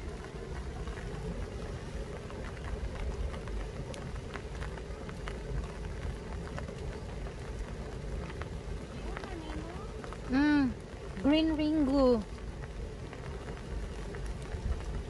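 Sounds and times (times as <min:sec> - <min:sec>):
rain falling on leaves: 0:00.0 - 0:15.0
sharp ticks of raindrops: 0:00.0 - 0:15.0.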